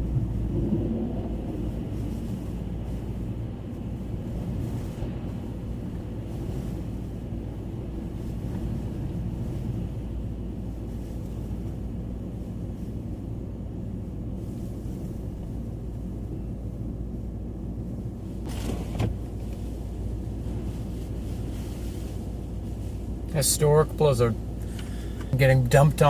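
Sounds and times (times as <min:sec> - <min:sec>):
vehicle rumble from inside cabin: 0:00.0 - 0:26.0.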